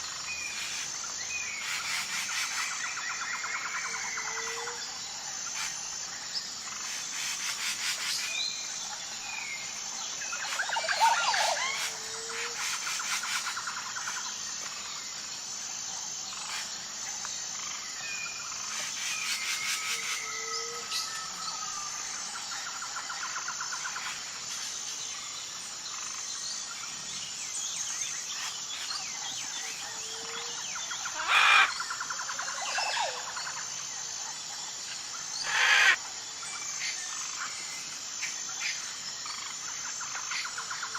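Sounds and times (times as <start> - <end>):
insects chorus: 0.0 - 40.9
wild birds calling and chirping: 0.0 - 40.9.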